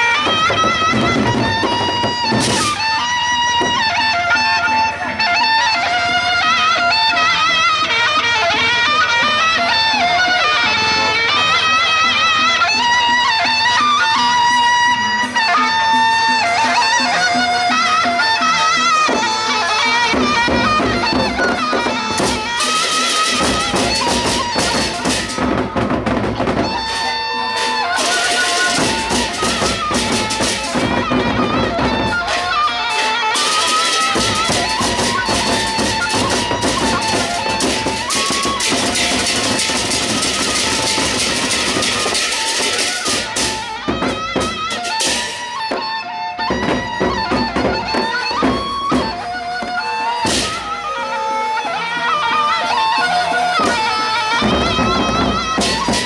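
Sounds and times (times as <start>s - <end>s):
large drums and percussion: 0.0s - 7.5s, 13.5s - 56.0s
reedy wind instrument melody: 0.0s - 56.0s.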